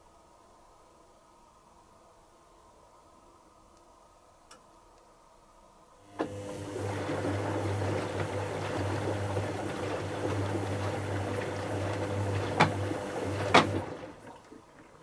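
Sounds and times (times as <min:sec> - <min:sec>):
washing machine electrical hum: 0:00.1 - 0:15.0.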